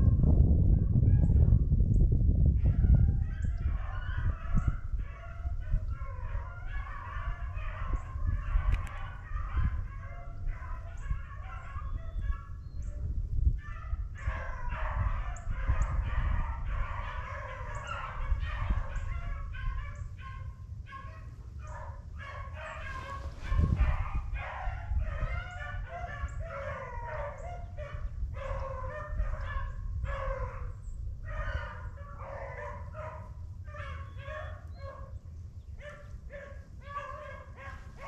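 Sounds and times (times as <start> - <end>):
dogs baying: 2.7 - 12.5, 13.6 - 35.2, 35.8 - 38.0.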